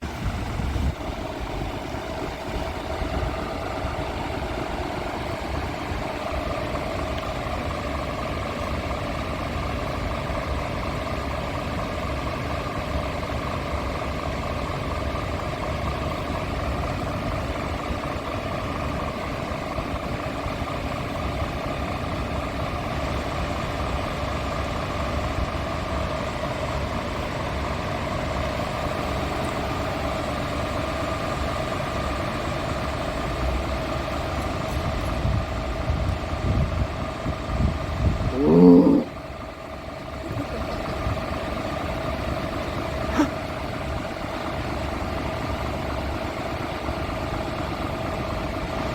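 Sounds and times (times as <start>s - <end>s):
diesel truck idling: 0.0s - 48.9s.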